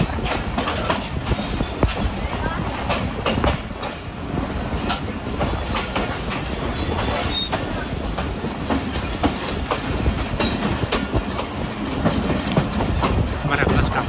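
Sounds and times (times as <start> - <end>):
train rumbling on track: 0.0 - 14.0
wheels clicking over rail joints: 0.0 - 14.0.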